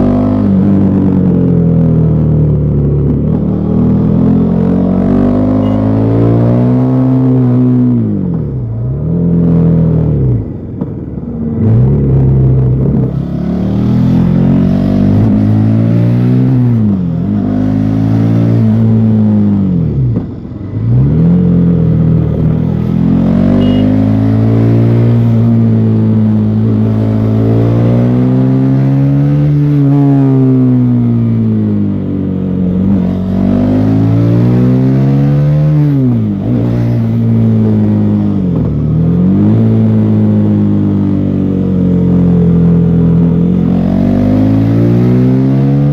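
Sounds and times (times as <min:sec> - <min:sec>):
motorcycle engine revving: 0:00.0 - 0:10.6, 0:11.4 - 0:45.9.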